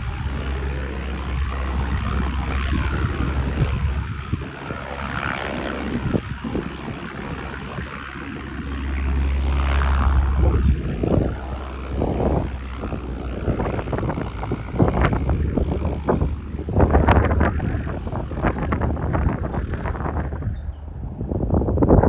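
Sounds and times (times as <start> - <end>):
light aircraft engine droning: 0.0 - 22.0
wind buffeting microphone: 0.0 - 22.0.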